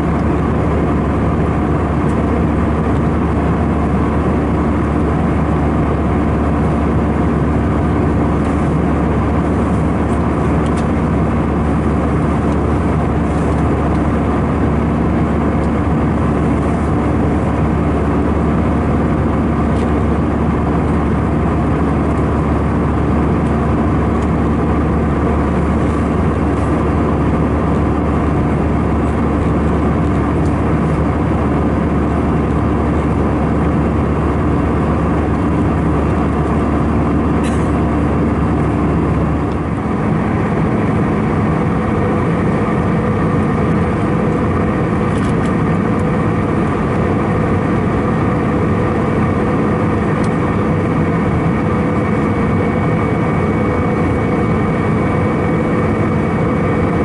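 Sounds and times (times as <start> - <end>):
airflow around fuselage: 0.0 - 57.0
jet engine cabin drone: 0.0 - 57.0.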